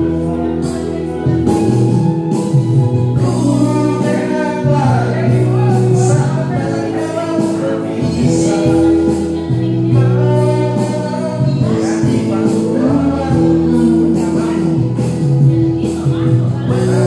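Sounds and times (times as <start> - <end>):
song with singing voices: 0.0 - 17.0.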